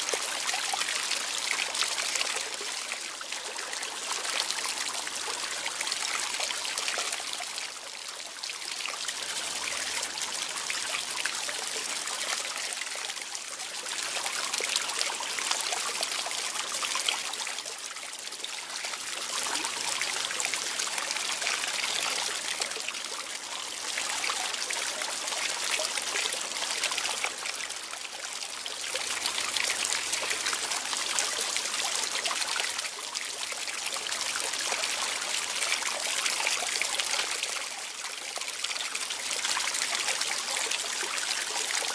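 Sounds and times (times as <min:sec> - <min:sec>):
water trickling and splashing: 0:00.0 - 0:41.9.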